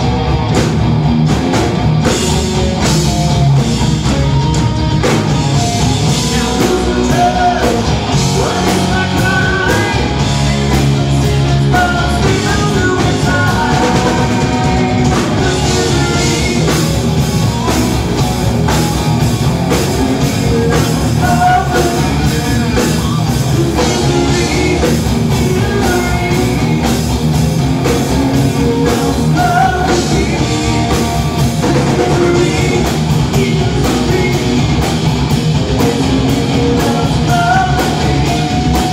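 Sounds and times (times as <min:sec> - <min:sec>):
drum kit: 0:00.0 - 0:38.9
electric guitar: 0:00.0 - 0:38.9
rock band playing live: 0:00.0 - 0:38.9.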